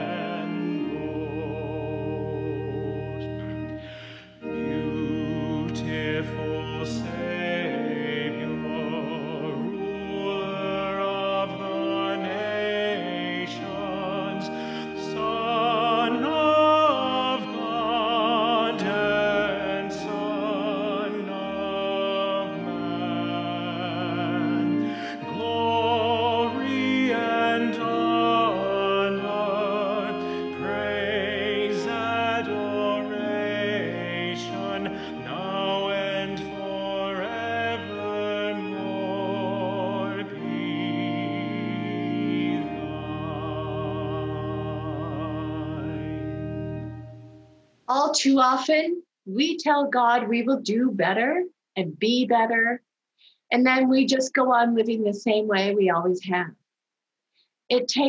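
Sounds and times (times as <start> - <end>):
person singing with vibrato: 0.0 - 46.6
held instrumental accompaniment: 0.0 - 49.5.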